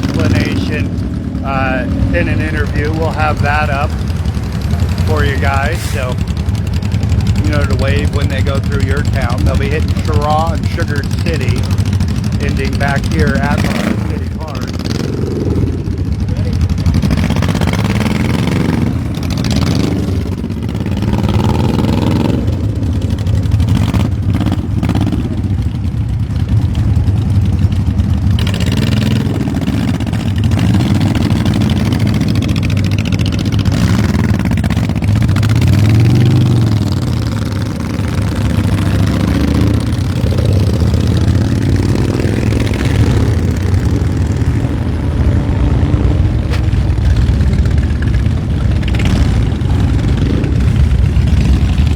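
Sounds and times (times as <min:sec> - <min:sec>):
motorcycles revving and pulling out: 0:00.0 - 0:51.9.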